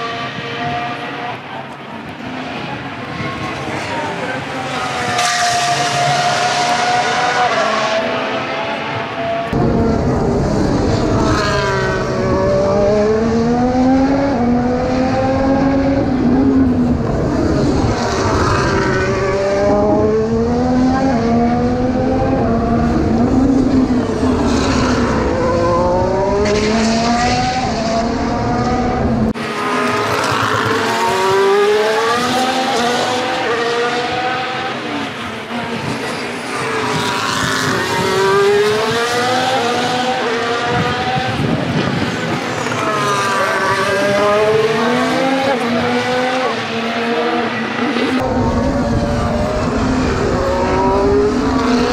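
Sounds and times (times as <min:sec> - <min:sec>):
racing car engines passing: 0:00.0 - 0:51.9.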